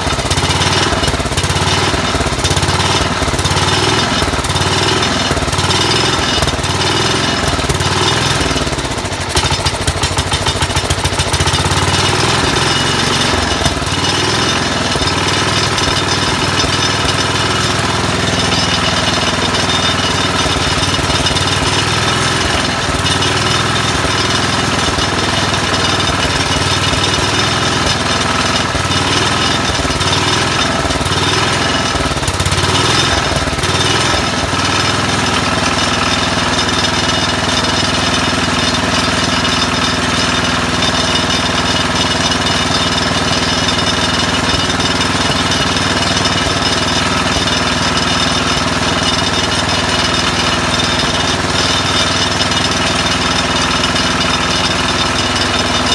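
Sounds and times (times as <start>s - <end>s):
garden tractor engine running: 0.0s - 55.9s.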